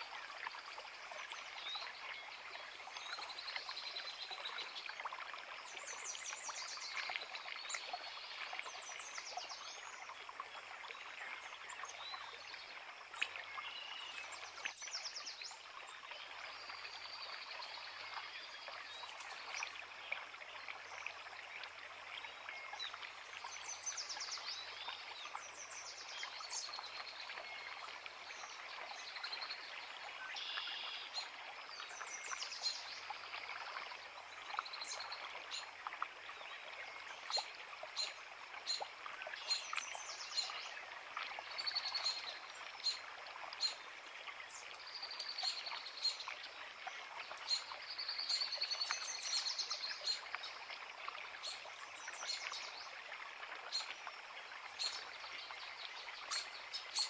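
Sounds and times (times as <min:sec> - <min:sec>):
creek running: 0:00.0 - 0:57.0
songbirds singing and chirping: 0:00.0 - 0:57.0.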